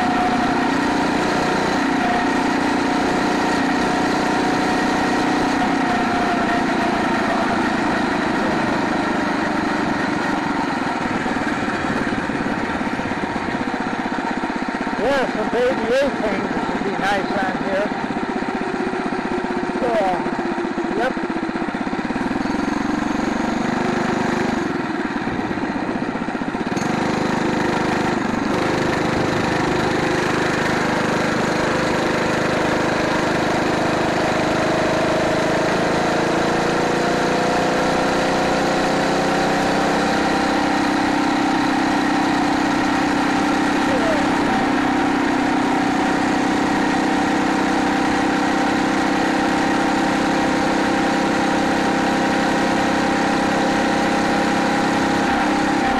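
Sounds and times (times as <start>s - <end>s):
small four-stroke engine running: 0.0s - 55.9s.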